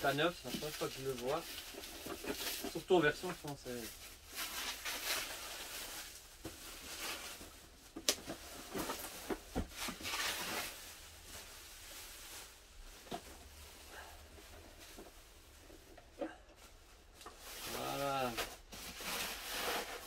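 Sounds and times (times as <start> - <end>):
plastic packaging crinkling: 0.0 - 13.3, 17.0 - 20.0.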